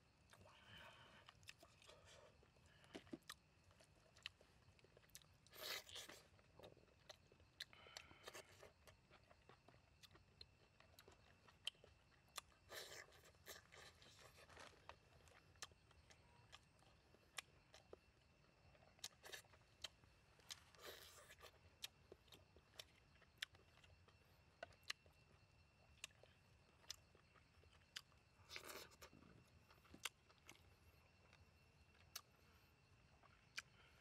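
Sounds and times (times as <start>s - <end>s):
chewing and crunching: 0.1s - 34.0s.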